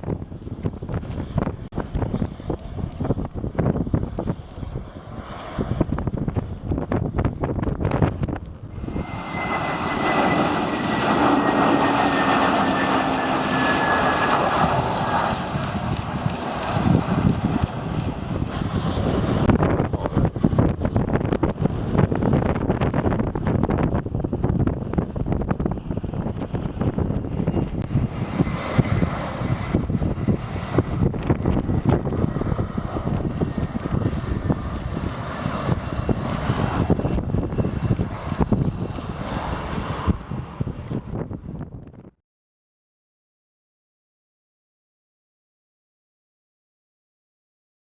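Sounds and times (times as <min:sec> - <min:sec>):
jet engines passing close: 0:00.0 - 0:42.2
wind buffeting microphone: 0:00.0 - 0:42.2.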